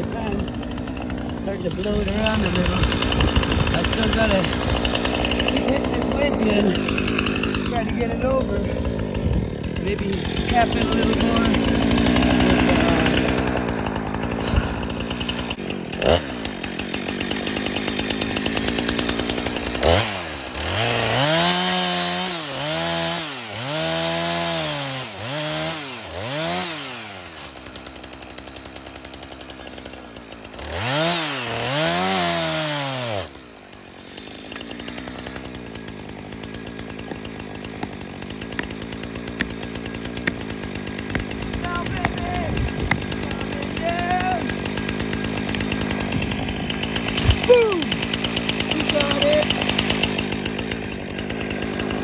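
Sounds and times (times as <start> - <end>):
chainsaw idling and revving: 0.0 - 52.0.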